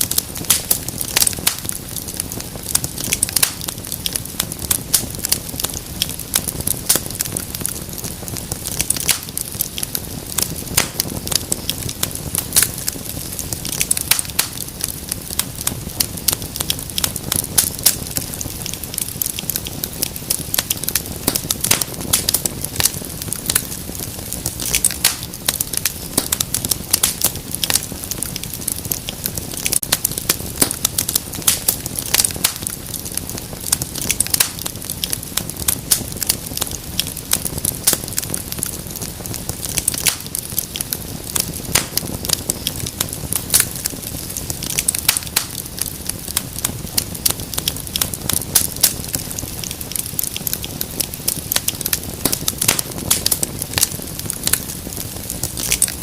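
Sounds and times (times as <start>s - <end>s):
low rumble of flame: 0.0s - 56.0s
wood fire crackling: 0.0s - 56.0s.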